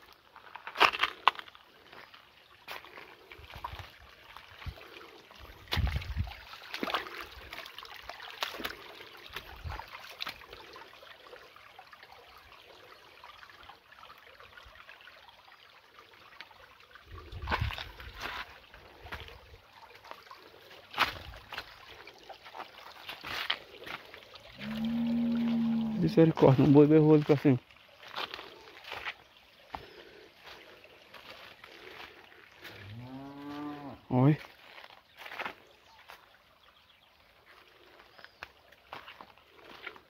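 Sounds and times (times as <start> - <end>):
creek trickling over stones: 0.0 - 40.0.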